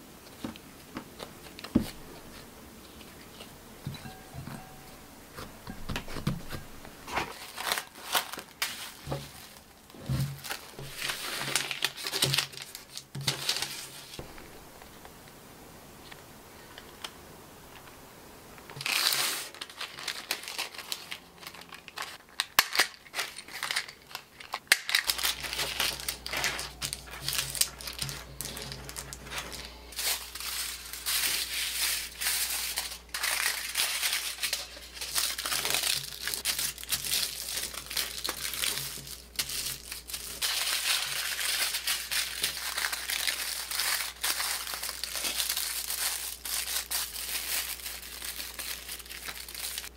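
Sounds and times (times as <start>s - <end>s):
aluminium foil crinkling: 5.9s - 15.1s, 18.6s - 49.9s.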